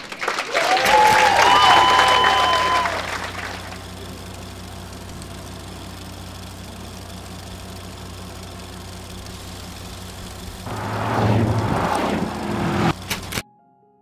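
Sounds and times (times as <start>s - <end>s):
car engine idling: 0.9s - 13.4s.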